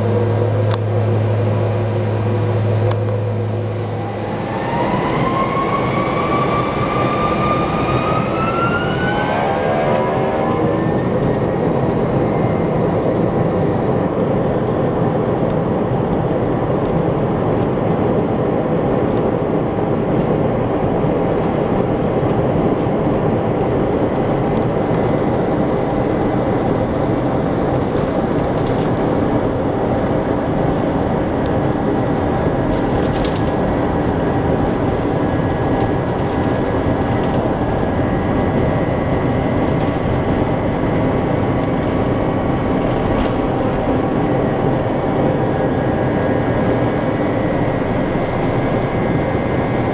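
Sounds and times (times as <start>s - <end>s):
airliner cabin engine and airflow noise: 0.0s - 49.9s.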